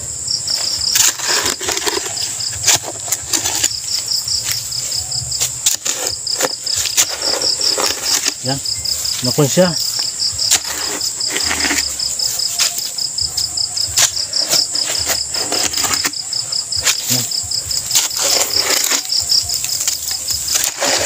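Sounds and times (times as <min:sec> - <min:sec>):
night insects trilling: 0:00.0 - 0:21.0
shovel digging into soil: 0:00.5 - 0:13.0, 0:13.8 - 0:21.0.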